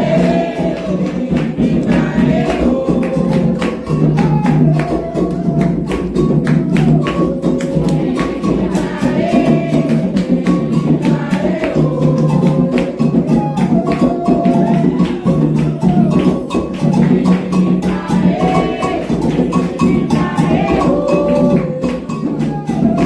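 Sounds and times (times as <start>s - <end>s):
hand drums in a fast rhythm: 0.0s - 23.0s
voices singing: 0.0s - 23.0s.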